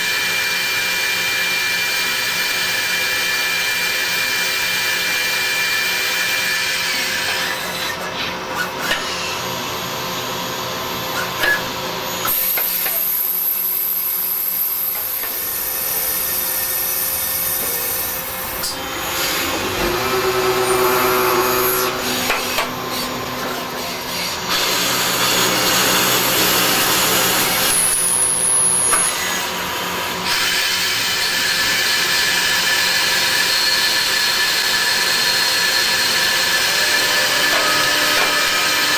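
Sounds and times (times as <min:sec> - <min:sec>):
lathe machine whine: 0:00.0 - 0:38.9.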